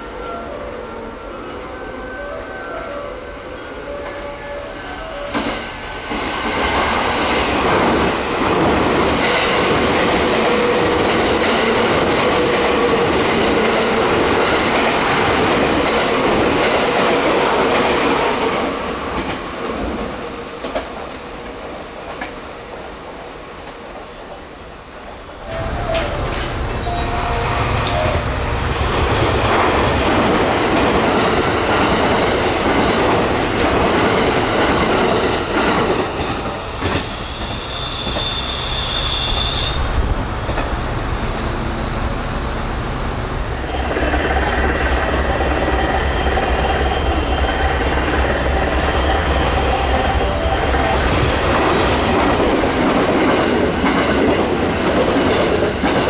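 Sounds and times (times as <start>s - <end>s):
electric train passing at speed: 0.0s - 56.0s.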